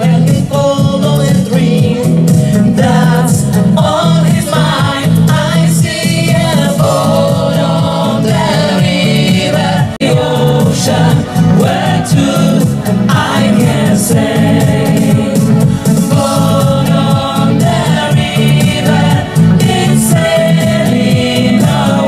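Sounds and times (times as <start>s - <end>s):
band with pulsing bass line: 0.0s - 22.0s
women singing together: 0.0s - 22.0s.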